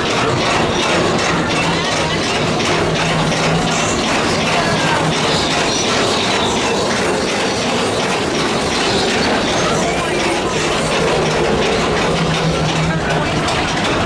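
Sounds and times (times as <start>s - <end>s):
rail clatter and squeals: 0.0s - 14.0s
ride cars rumbling on track: 0.0s - 14.0s.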